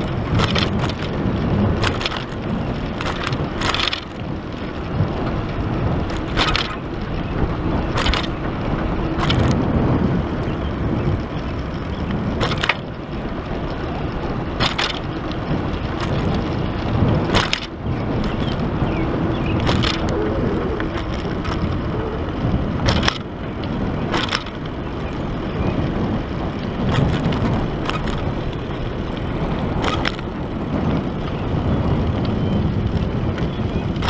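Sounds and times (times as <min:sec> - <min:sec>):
bike clicks and knocks over bumps: 0:00.0 - 0:34.0
wind and tyre noise: 0:00.0 - 0:34.0.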